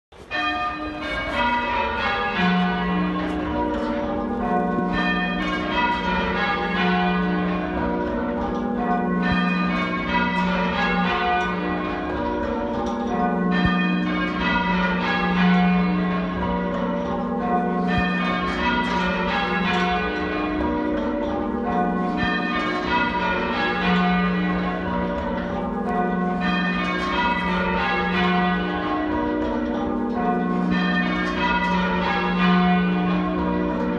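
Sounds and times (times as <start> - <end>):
half-muffled church bells ringing: 0.2 - 33.9.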